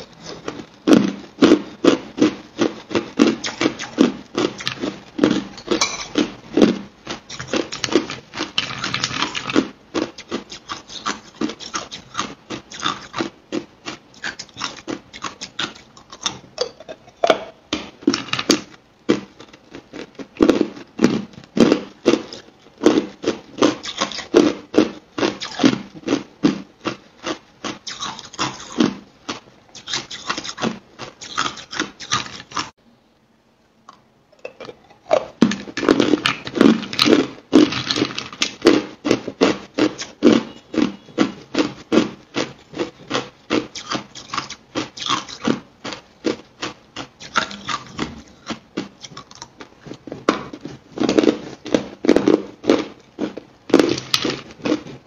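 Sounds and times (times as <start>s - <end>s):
ice crunching between teeth: 0.0s - 16.4s, 18.1s - 32.7s, 34.6s - 55.0s.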